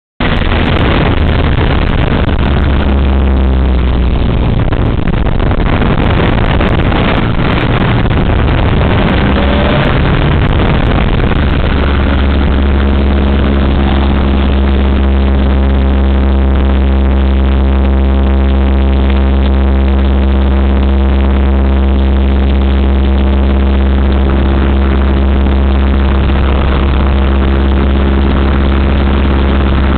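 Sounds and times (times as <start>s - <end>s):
biplane engine droning: 0.2s - 29.9s
rush of wind noise: 0.2s - 29.9s.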